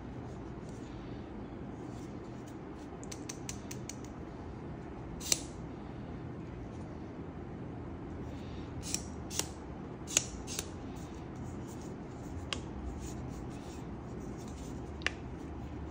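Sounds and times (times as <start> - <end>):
low room hum: 0.0 - 15.9.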